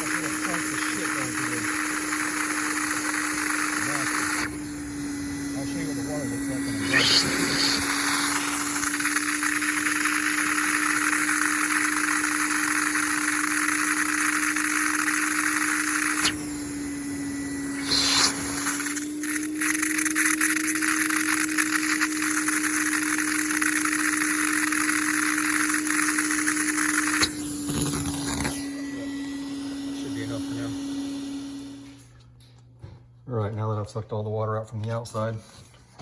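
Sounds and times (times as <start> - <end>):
wet dry vacuum running: 0.0 - 32.1.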